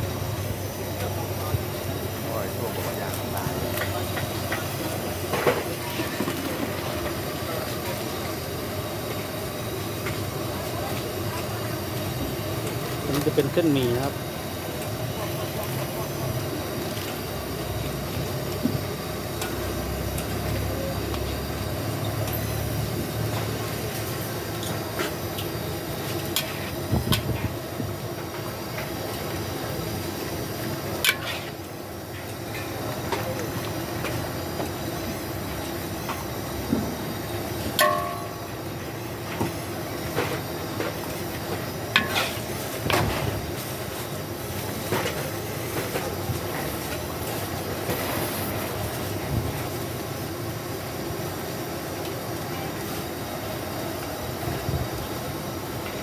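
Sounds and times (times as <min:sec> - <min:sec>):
noodles sizzling in a pan: 0:00.1 - 0:56.0.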